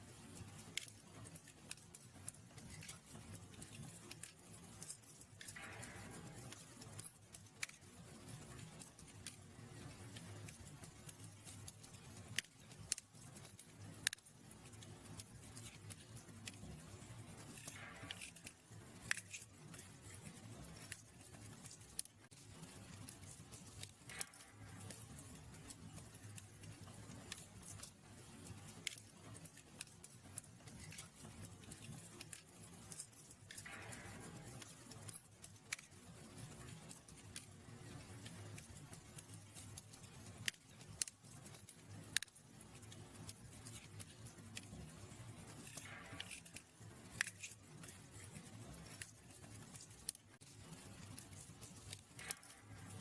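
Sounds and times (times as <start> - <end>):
fire crackling and popping: 0.0 - 53.0
low rumble of flames: 0.0 - 53.0.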